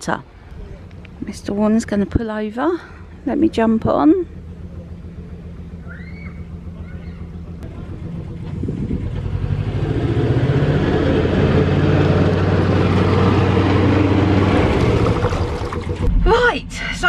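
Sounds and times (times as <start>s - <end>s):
boat engine running: 0.4s - 17.0s.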